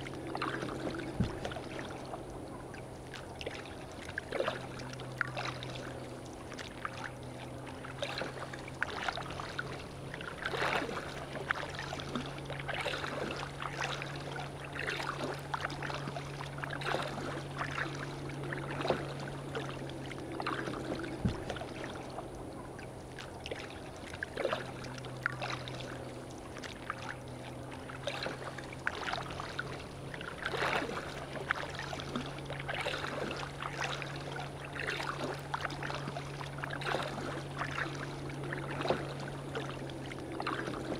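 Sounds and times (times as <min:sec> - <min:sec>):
kayak paddle splashing: 0:00.0 - 0:40.9
steady low hum: 0:00.0 - 0:40.9
water lapping at hull: 0:00.0 - 0:40.9.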